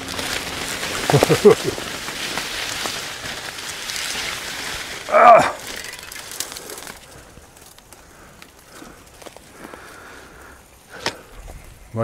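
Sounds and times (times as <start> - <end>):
leaves rustling against camera: 0.0 - 12.0.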